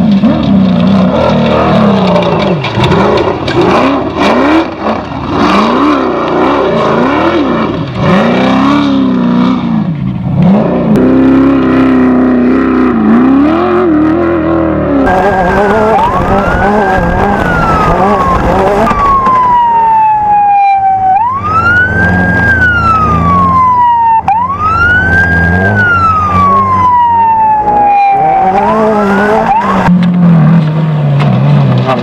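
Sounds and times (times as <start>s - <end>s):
buggy engine revving: 0.0s - 32.0s.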